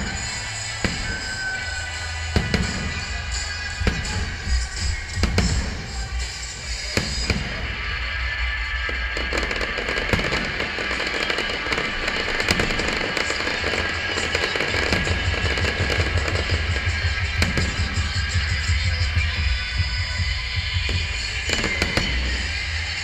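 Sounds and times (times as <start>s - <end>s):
fireworks bangs and crackles: 0.0s - 23.0s
music: 0.0s - 23.0s.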